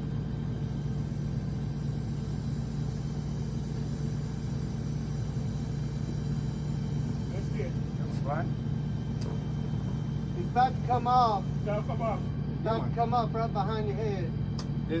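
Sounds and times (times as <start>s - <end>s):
truck engine idling: 0.0s - 13.1s.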